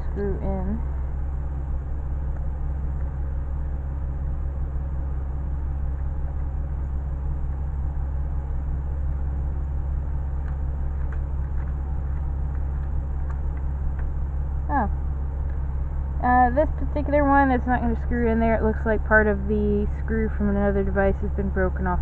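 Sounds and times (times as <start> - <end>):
engine drone: 0.0 - 22.0.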